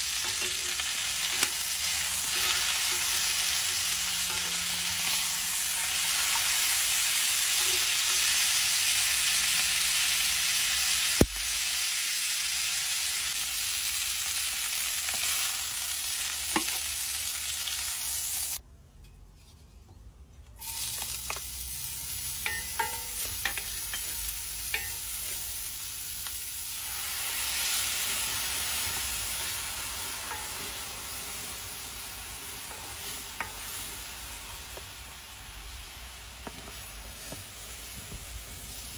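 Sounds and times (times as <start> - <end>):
meat sizzling in a skillet: 0.0 - 18.6, 20.6 - 38.9.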